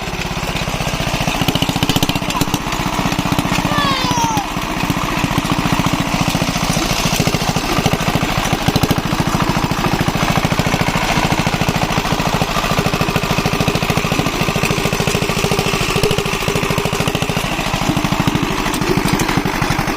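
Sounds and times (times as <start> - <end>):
diesel engine knocking steadily: 0.0 - 19.9.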